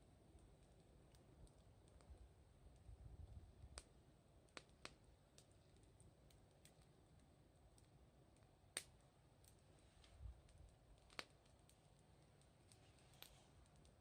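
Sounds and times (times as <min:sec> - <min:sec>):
bonfire crackling: 0:00.0 - 0:14.0.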